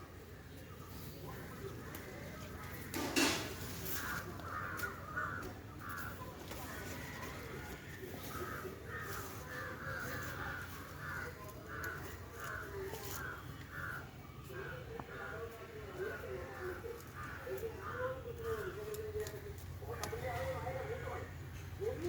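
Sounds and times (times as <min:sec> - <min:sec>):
crows cawing: 0:01.3 - 0:22.0.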